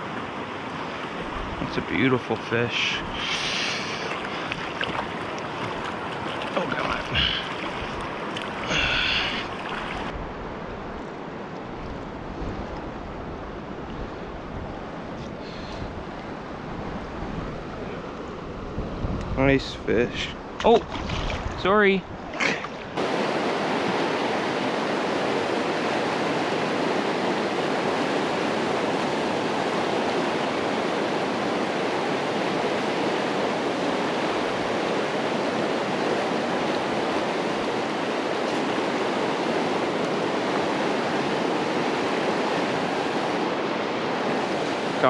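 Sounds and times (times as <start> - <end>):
stream rushing over rapids: 0.0 - 19.1, 19.8 - 45.0.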